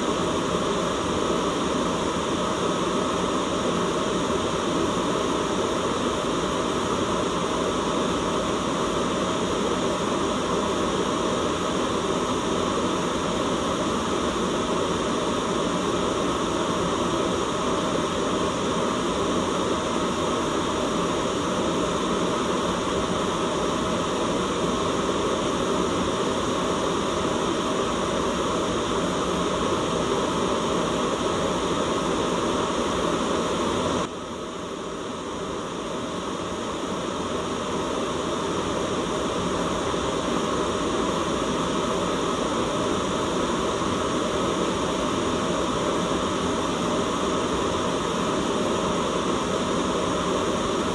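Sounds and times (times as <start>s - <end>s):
white noise hiss: 0.0s - 50.9s.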